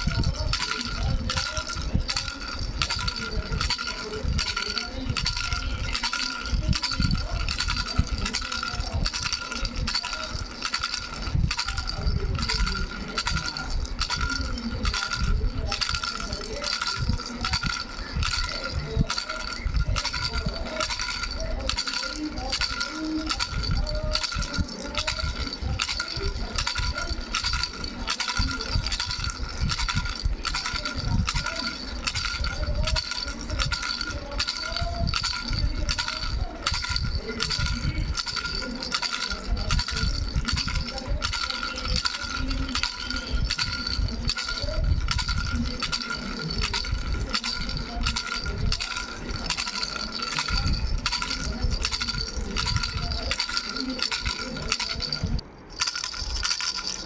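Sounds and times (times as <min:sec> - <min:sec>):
baby's bell rattle shaken: 0:00.0 - 0:57.0.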